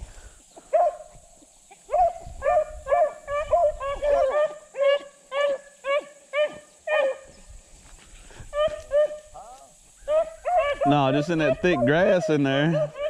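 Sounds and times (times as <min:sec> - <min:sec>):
hunting dogs baying: 0:00.6 - 0:07.4, 0:08.2 - 0:13.0.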